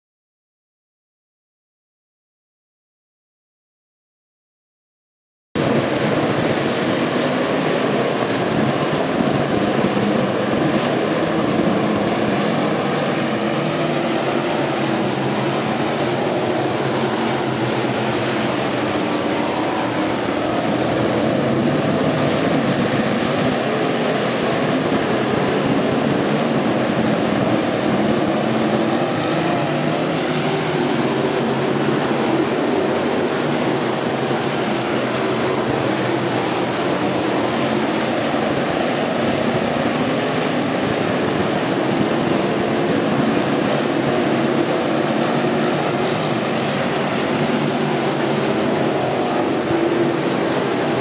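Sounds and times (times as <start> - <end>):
stock car engines racing: 5.6 - 51.0.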